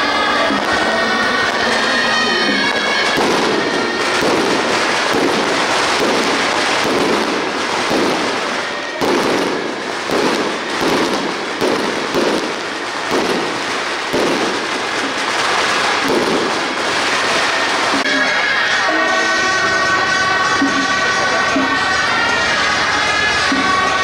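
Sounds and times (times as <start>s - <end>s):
firecrackers crackling: 0.0s - 24.0s.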